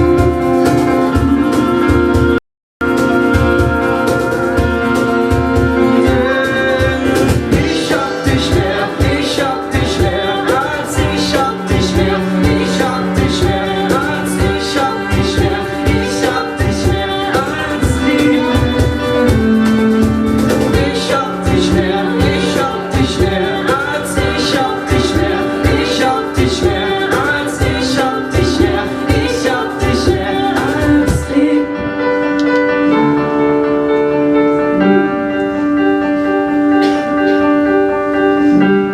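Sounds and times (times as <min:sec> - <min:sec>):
steady beat: 0:00.0 - 0:31.5.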